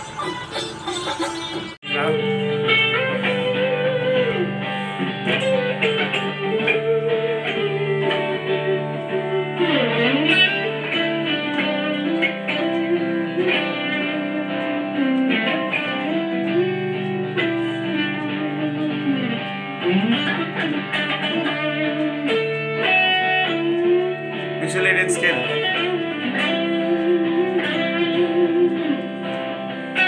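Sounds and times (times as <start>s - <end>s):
electric guitar sliding melody: 0.0s - 30.0s.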